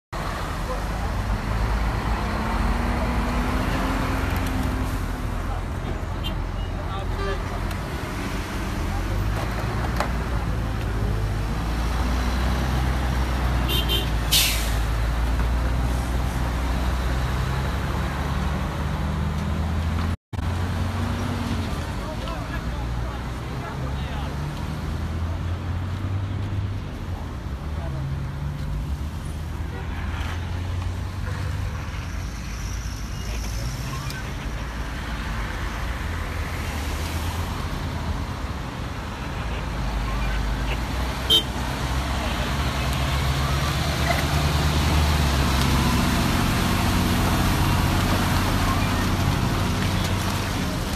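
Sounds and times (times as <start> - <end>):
road traffic rumble: 0.1 - 50.9.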